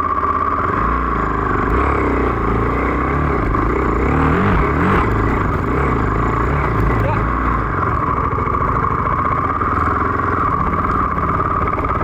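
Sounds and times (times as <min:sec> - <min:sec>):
dirt bike engine revving: 0:00.4 - 0:12.0.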